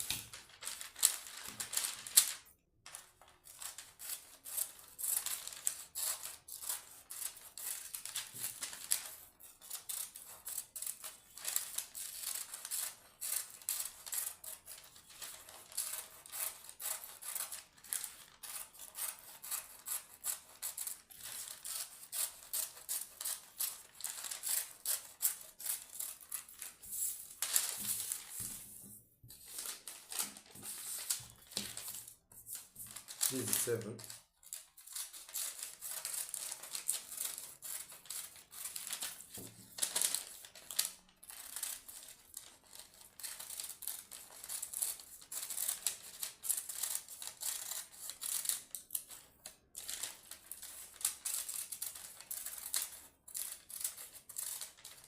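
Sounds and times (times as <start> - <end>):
scissors snipping paper: 0.0 - 55.0.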